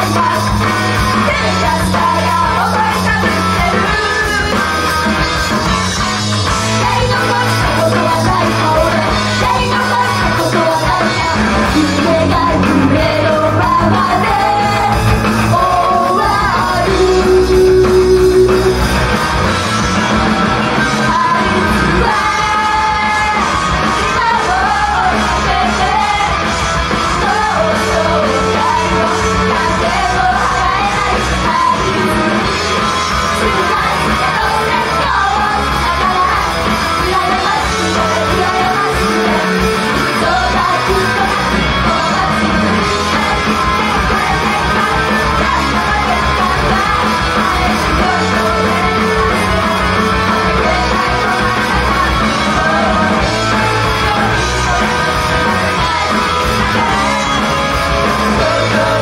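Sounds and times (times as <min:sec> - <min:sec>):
women singing and shouting: 0:00.0 - 0:05.8, 0:06.4 - 0:19.0, 0:20.1 - 0:59.0
loud rock music with guitar: 0:00.0 - 0:59.0.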